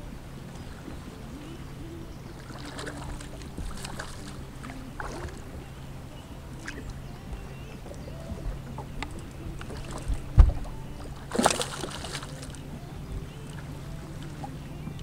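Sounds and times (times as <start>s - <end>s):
boat motor humming: 0.0s - 15.0s
water slapping the hull: 0.0s - 15.0s.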